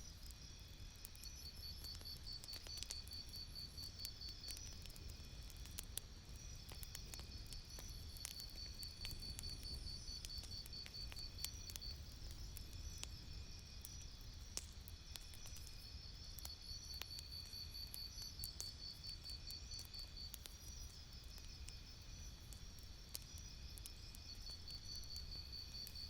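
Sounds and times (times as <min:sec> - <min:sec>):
campfire crackling: 0:00.1 - 0:26.0.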